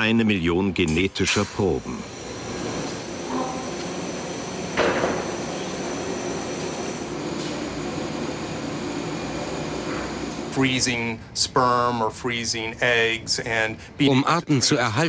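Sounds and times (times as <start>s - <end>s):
equipment hum: 0.0s - 14.2s.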